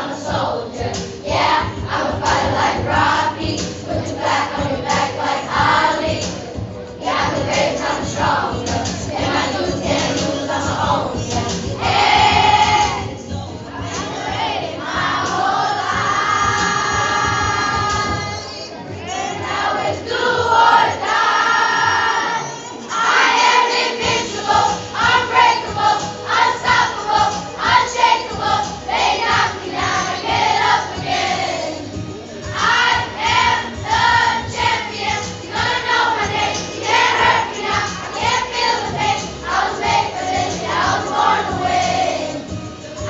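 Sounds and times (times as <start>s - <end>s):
children singing in unison: 0.0s - 18.6s, 19.2s - 43.0s
recorded pop song: 0.0s - 43.0s.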